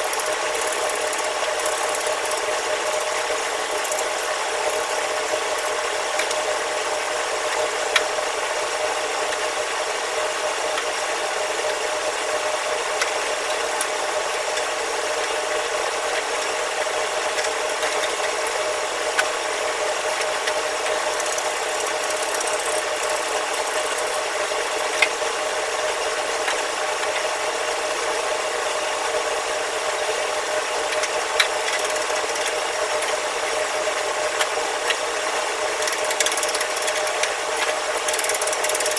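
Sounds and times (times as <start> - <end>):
machine whir and hum: 0.0 - 38.9.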